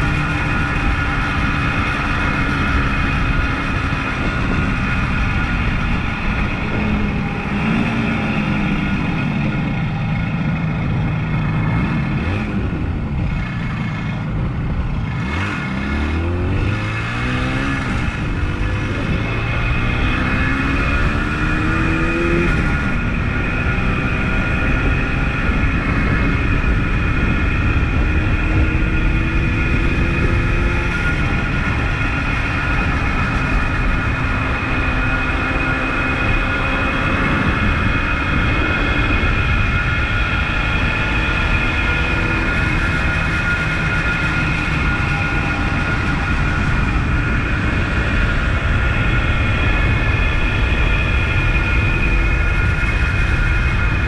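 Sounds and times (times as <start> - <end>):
two-stroke motorcycle engine: 0.0 - 54.0.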